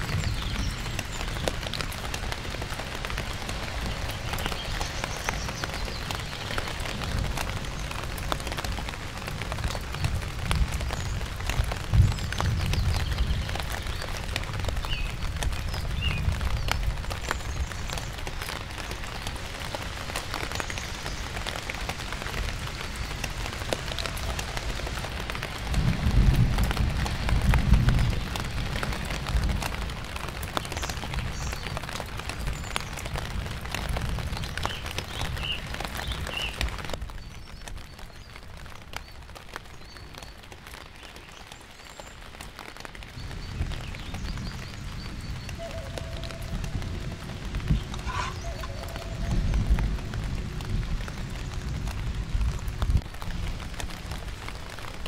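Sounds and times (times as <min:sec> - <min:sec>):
rain on leaves and tarp: 0:00.0 - 0:55.0.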